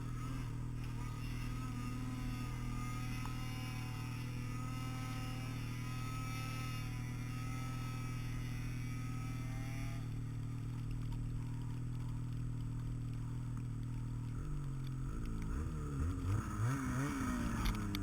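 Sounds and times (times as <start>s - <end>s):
engine running and revving: 0.0s - 18.0s.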